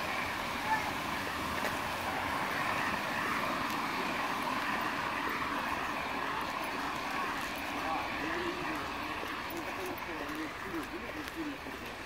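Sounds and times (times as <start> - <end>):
rain on a wet street: 0.0 - 12.0.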